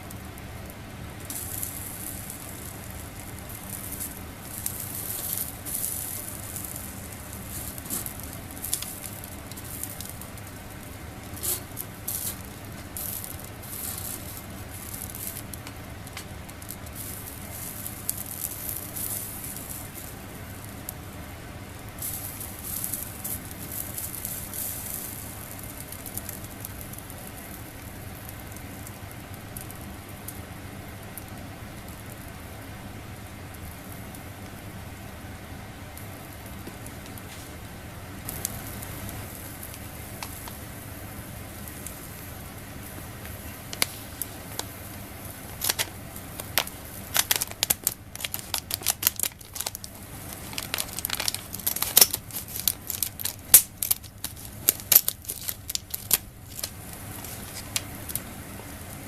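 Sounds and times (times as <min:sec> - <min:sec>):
fire crackling and spitting: 0:00.0 - 0:59.0
food sizzling on a grill: 0:00.0 - 0:59.0
steady low hum: 0:00.0 - 0:59.0.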